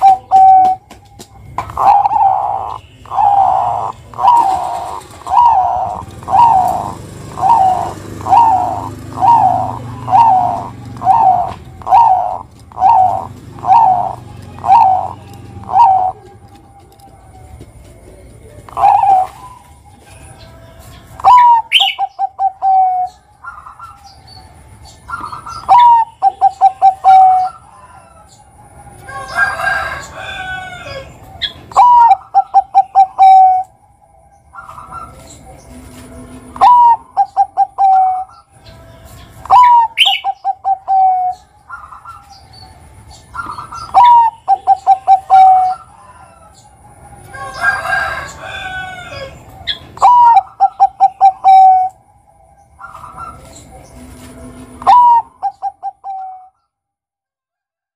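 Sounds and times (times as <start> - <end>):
dove cooing: 0.0 - 20.3, 21.1 - 33.8, 34.5 - 38.5, 39.4 - 52.1, 52.8 - 56.6.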